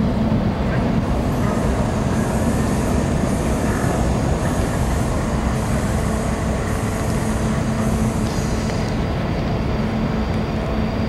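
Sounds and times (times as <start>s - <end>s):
ship engines low rumble: 0.0s - 11.0s.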